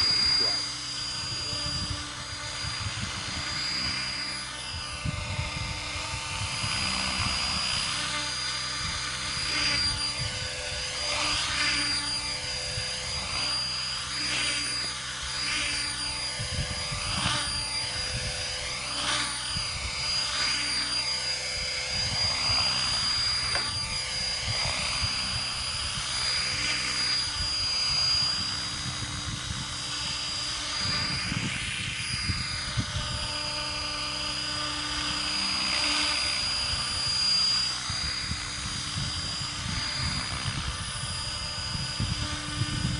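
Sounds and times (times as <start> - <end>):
high-pitched motor whine: 0.0 - 42.9
model helicopter rotor whirring: 0.0 - 42.9.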